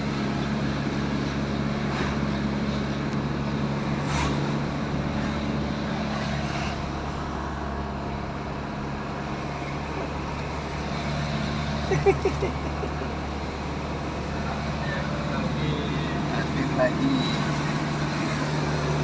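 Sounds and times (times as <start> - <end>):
outdoor noise: 0.0 - 19.0
vehicle engine running steadily: 0.0 - 19.0.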